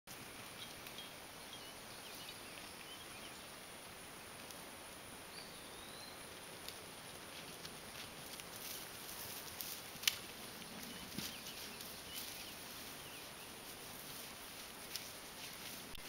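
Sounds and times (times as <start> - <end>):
outdoor background noise: 0.1 - 16.0.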